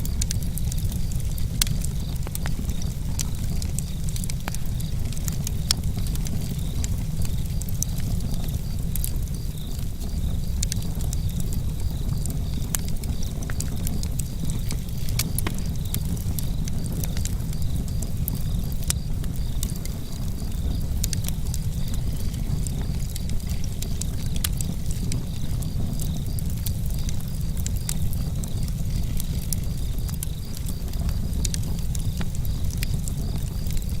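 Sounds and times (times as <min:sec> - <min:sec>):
burning wood popping and snapping: 0:00.0 - 0:34.0
low rumble of fire: 0:00.0 - 0:34.0.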